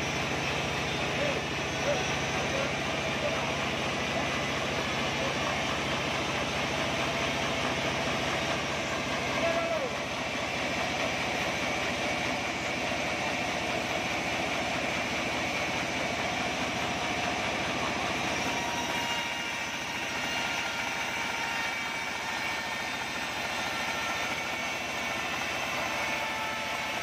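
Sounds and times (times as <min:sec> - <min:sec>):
band saw sawing through log: 0:00.0 - 0:27.0.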